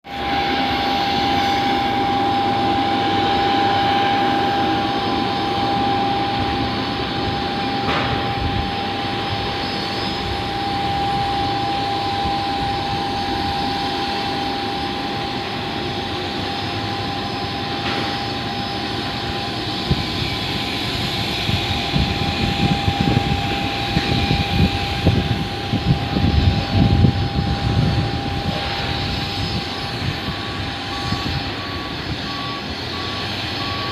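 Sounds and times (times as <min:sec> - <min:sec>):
aircraft engines whining: 0:00.0 - 0:33.9
low engine rumble: 0:00.2 - 0:33.9.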